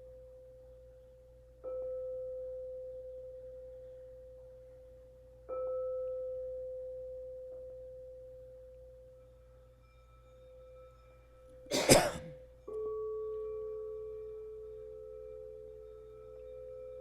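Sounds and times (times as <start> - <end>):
crystal singing bowl ringing: 0.0 - 11.7, 12.3 - 17.0.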